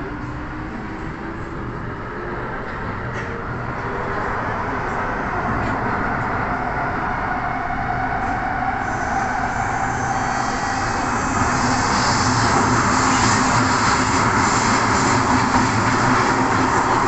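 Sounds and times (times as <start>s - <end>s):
train rumble and rail noise: 0.0s - 17.0s.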